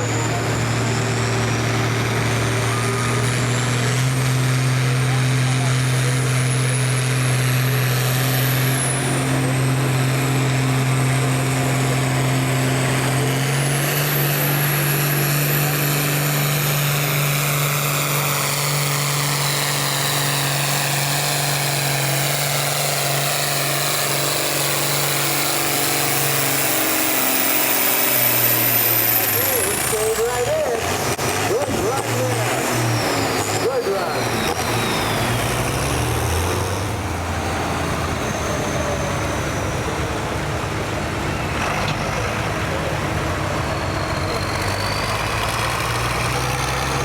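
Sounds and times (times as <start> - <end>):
large engine running steadily: 0.0 - 47.0.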